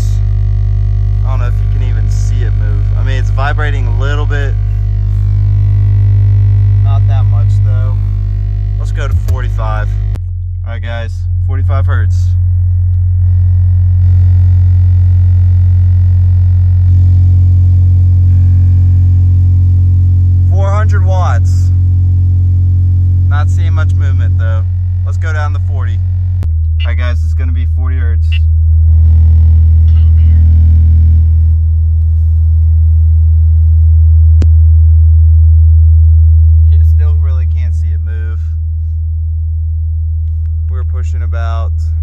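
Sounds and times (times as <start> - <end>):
subwoofer low test tone hum: 0.0 - 42.0.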